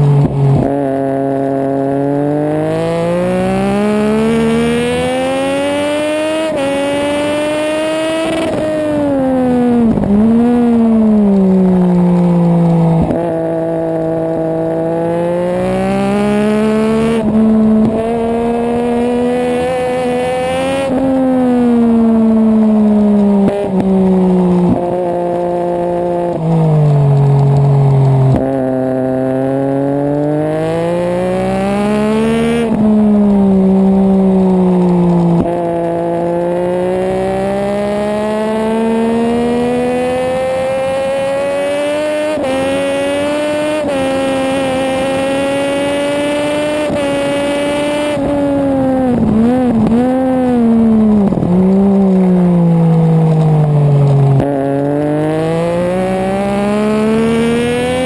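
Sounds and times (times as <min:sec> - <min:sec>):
racing motorcycle engine revving: 0:00.0 - 0:58.0.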